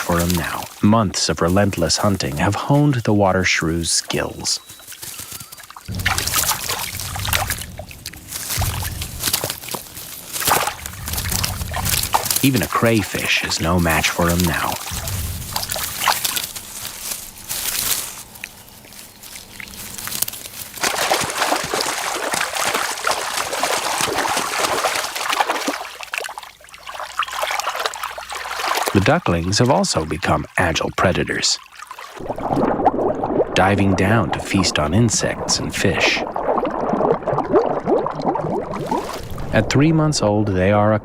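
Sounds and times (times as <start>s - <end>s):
water splashing and sloshing: 0.0s - 40.1s.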